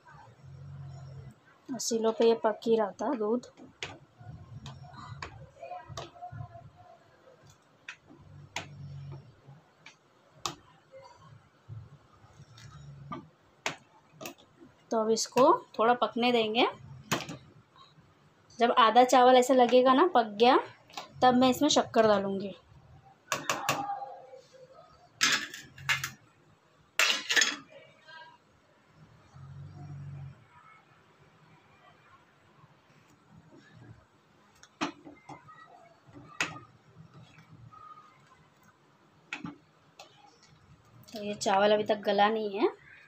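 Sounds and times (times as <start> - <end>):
faint low hum: 0.0 - 43.0.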